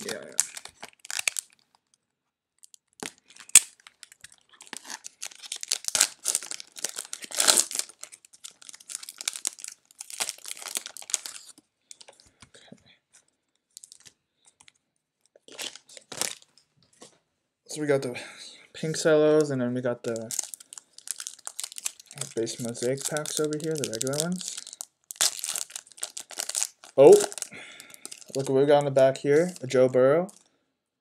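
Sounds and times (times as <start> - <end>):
plastic wrapper crinkling and tearing: 0.0 - 12.3, 13.2 - 16.6, 19.4 - 30.5.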